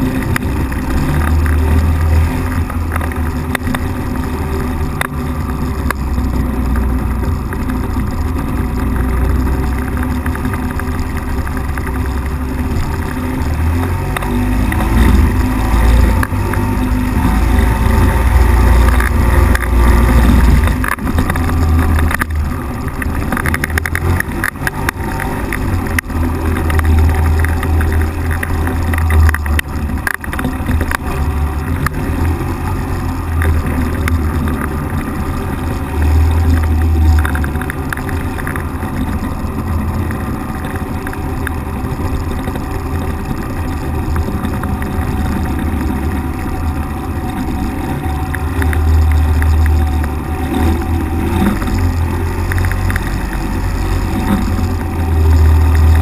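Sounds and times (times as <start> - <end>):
engine and propeller rumbling: 0.0 - 56.0.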